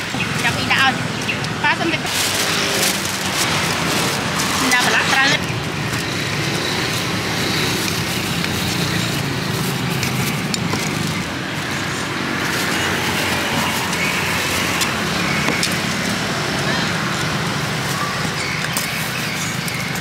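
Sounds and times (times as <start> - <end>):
roadside traffic: 0.0 - 20.0.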